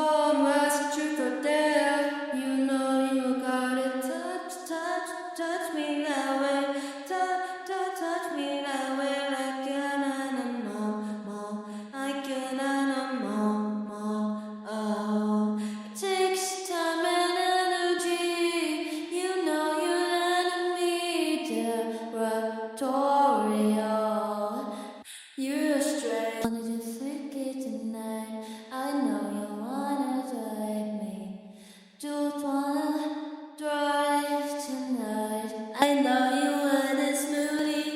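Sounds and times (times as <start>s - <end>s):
woman singing pop melody: 0.0s - 31.3s, 32.0s - 37.9s.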